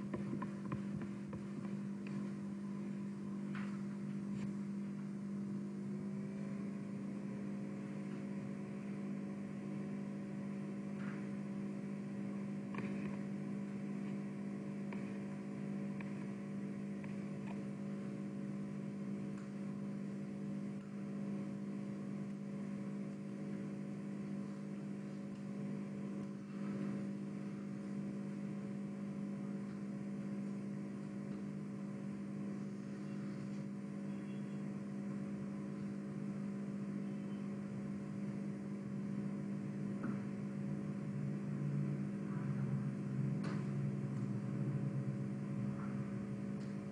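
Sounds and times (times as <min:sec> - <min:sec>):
faint steady tones: 0:00.0 - 0:46.9
steady low hum: 0:00.0 - 0:46.9.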